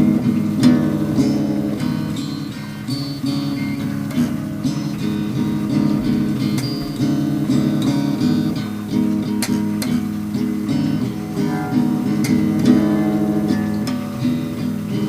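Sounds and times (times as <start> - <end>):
guitar playing plucked chords: 0.0 - 15.0.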